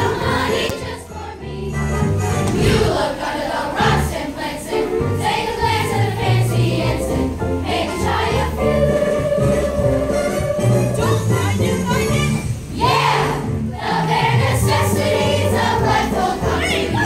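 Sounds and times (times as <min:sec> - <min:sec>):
children singing: 0:00.0 - 0:01.9, 0:02.5 - 0:11.5, 0:12.8 - 0:17.0
musical accompaniment with bass line: 0:00.0 - 0:03.1, 0:03.8 - 0:17.0.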